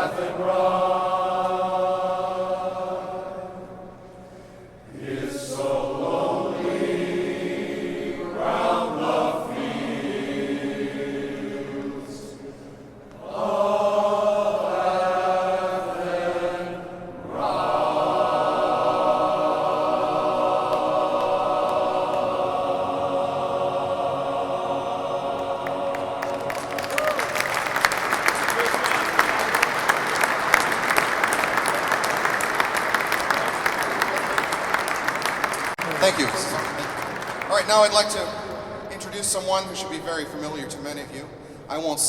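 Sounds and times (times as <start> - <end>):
men's choir singing in harmony: 0.0 - 41.1.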